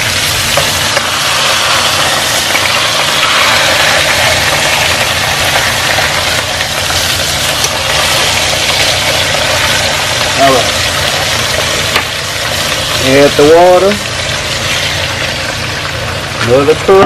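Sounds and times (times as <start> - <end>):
steaks sizzling in a pan: 0.0 - 16.5.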